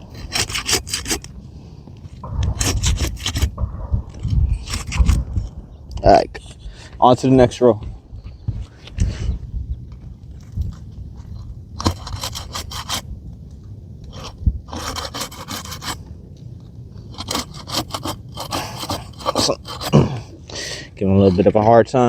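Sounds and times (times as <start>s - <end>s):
pry bar scraping under shingles: 0.0s - 13.2s, 14.0s - 16.2s, 16.9s - 22.0s.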